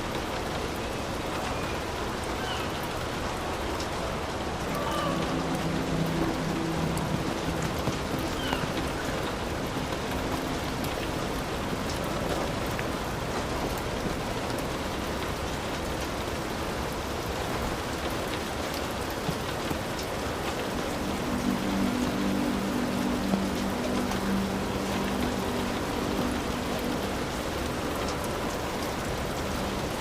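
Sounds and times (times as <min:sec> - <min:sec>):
heavy rain on a roof: 0:00.0 - 0:30.0.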